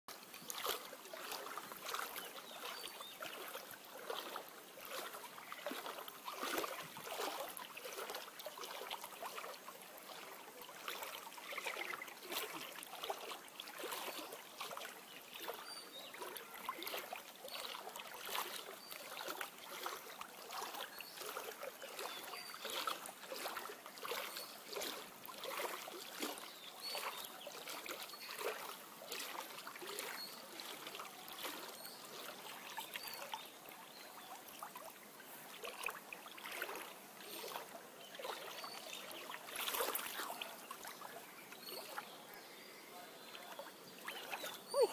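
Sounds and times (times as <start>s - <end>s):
water sloshing and splashing: 0.1s - 42.3s, 43.2s - 44.9s.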